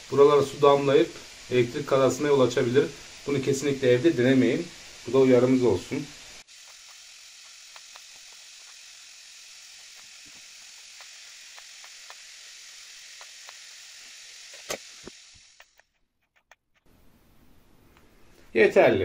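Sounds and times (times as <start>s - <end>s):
heating element hissing in water: 0.0s - 15.9s.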